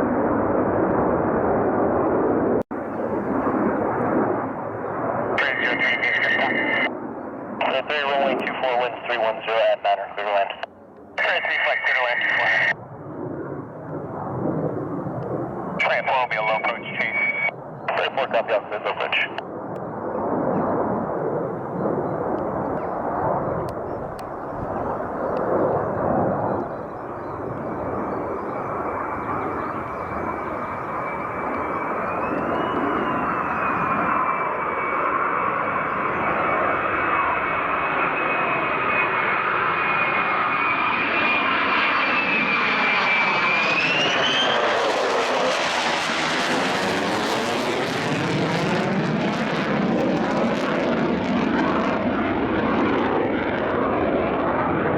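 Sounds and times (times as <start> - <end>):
fighter jet passing: 0.0 - 54.9.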